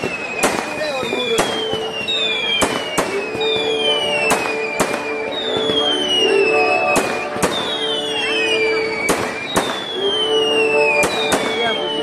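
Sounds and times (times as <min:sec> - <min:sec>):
firework bangs: 0:00.0 - 0:12.0
firework whistles sliding down: 0:00.0 - 0:12.0.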